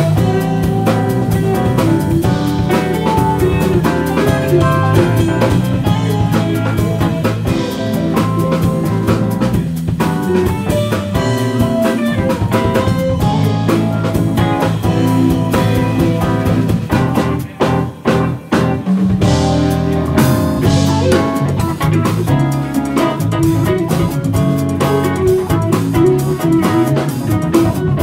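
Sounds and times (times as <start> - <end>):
funk band playing: 0.0 - 28.0.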